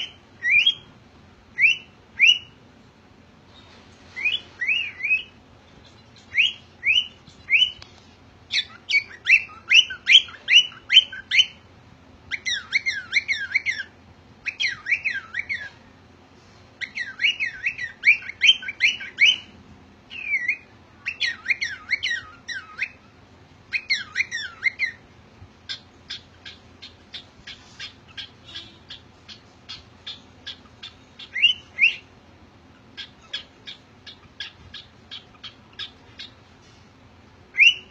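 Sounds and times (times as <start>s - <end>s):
cockatiel chirping and whistling: 0.0s - 2.6s, 4.1s - 11.7s, 12.3s - 15.8s, 16.8s - 25.0s, 25.7s - 32.1s, 32.7s - 36.5s, 37.5s - 37.9s.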